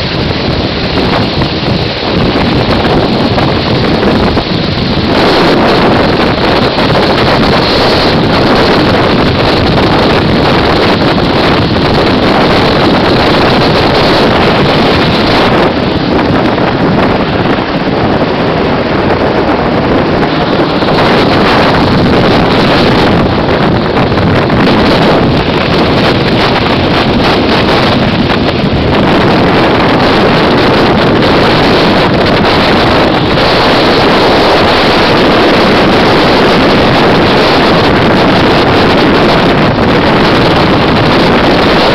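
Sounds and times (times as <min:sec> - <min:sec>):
helicopter engine and rotor: 0:00.0 - 0:41.9
rotor wash wind noise: 0:00.0 - 0:41.9.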